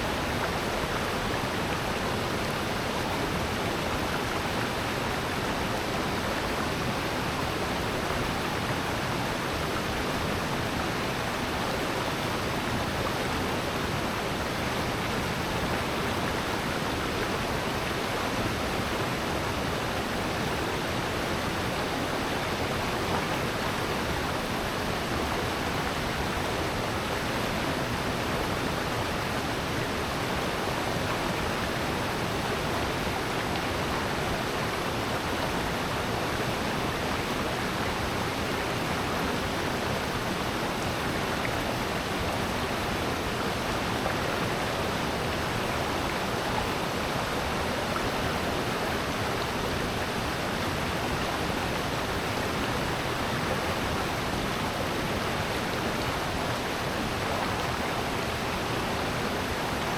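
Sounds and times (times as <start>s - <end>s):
rushing stream water: 0.0s - 59.9s.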